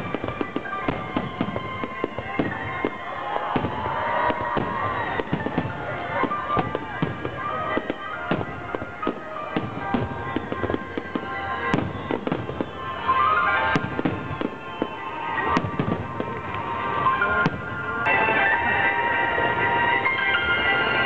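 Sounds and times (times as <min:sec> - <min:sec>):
fireworks booming and cracking: 0:00.0 - 0:20.6
music playing: 0:00.0 - 0:21.0.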